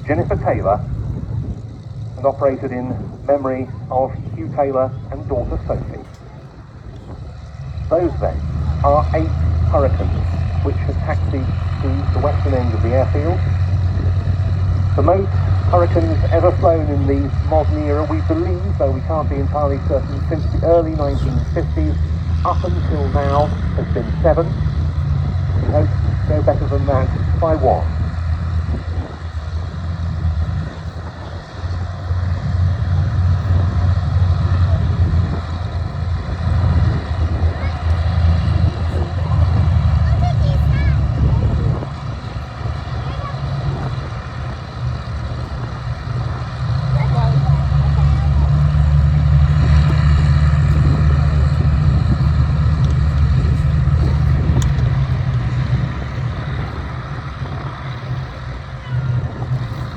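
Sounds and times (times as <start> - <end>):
aircraft piston engines rumbling: 0.0 - 59.9.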